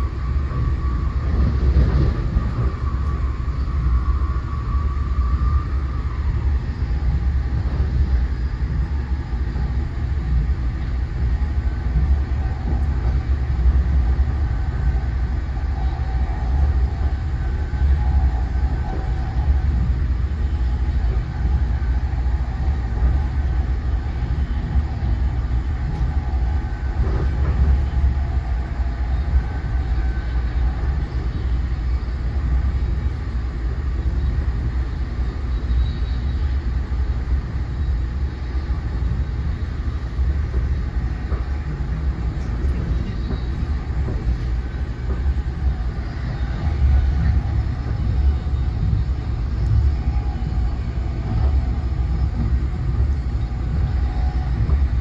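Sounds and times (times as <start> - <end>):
faint steady whine: 0.0 - 55.0
wheels rumbling on rails: 0.0 - 55.0.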